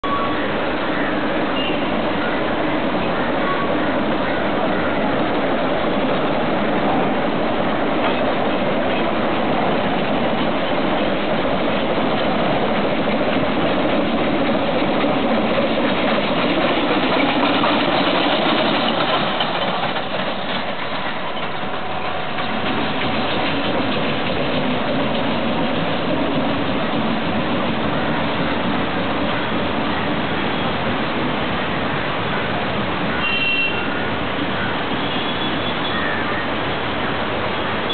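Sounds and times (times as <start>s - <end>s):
steam locomotive working: 0.0s - 37.9s
coach wheels clattering over rails: 1.9s - 33.2s.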